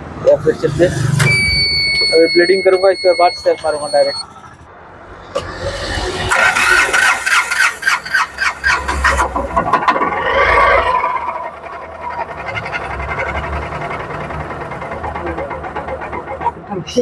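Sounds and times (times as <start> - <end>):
diesel engine cranking without firing: 0.4 - 4.7, 5.3 - 17.0.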